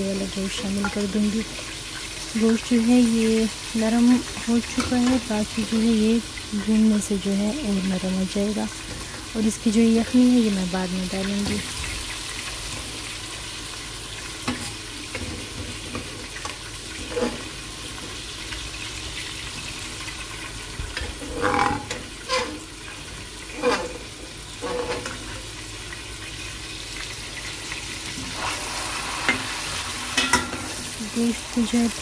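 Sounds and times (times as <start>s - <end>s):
meat sizzling in hot oil: 0.0s - 32.0s.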